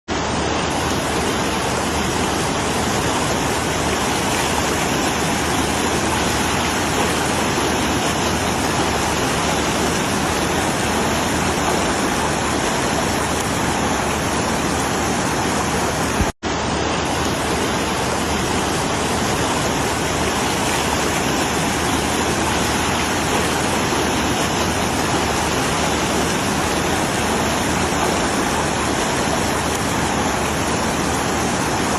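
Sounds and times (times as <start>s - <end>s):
flowing water rushing: 0.1s - 31.9s.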